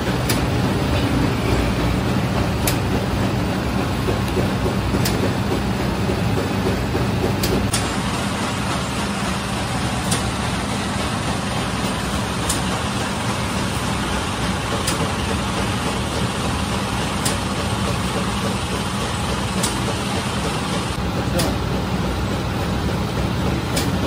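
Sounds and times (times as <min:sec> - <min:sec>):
bread machine running with hum: 0:00.0 - 0:24.0.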